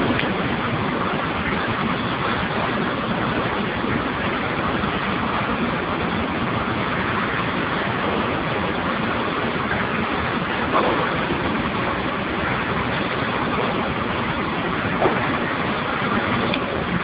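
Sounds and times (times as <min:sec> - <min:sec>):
steam boiler hissing: 0:00.0 - 0:17.0.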